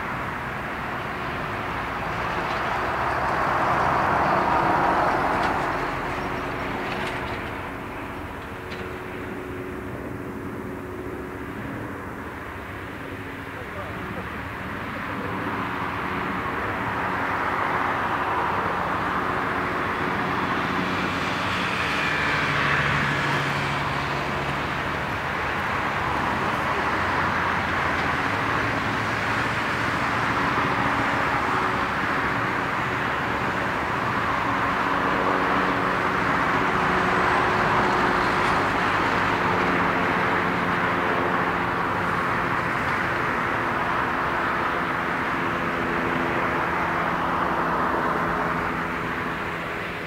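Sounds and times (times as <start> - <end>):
jet engine noise: 0.0 - 50.0.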